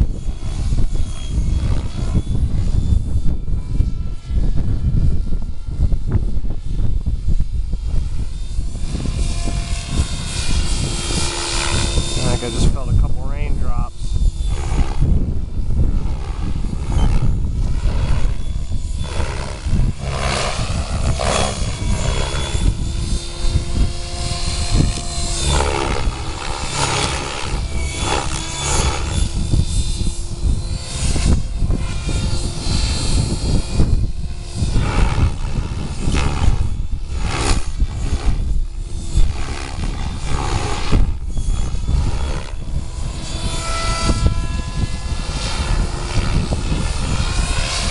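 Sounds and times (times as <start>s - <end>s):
rc helicopter rotor whine: 0.0s - 47.9s
wind buffeting microphone: 0.0s - 47.9s.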